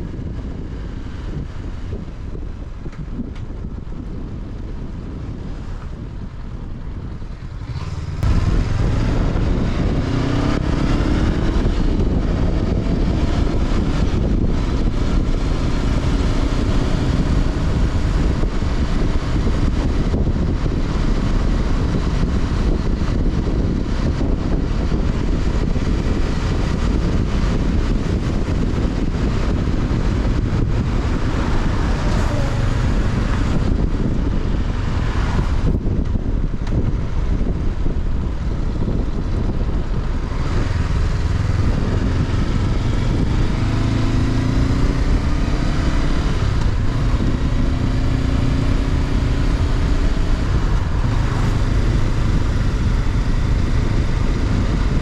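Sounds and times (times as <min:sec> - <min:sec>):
motorcycle engine accelerating: 0:00.0 - 0:55.0
wind noise on microphone: 0:00.0 - 0:55.0.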